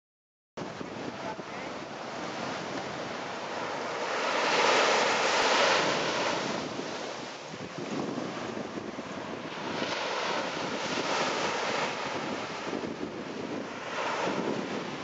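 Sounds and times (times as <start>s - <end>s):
small waves breaking on sand: 0.6s - 15.0s
wind on microphone: 0.6s - 15.0s.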